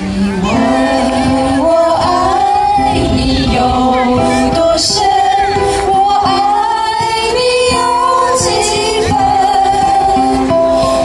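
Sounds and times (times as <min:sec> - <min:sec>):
people singing together: 0:00.0 - 0:11.0
ukulele strumming: 0:00.0 - 0:11.0.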